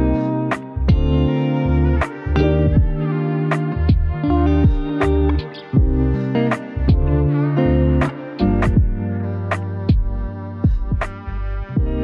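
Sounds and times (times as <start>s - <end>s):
background music with sustained chords: 0.0s - 12.0s.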